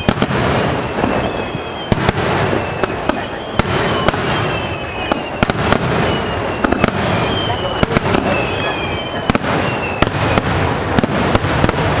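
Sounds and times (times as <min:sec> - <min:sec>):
fireworks bangs: 0:00.0 - 0:12.0
whistling firework shells: 0:00.0 - 0:12.0.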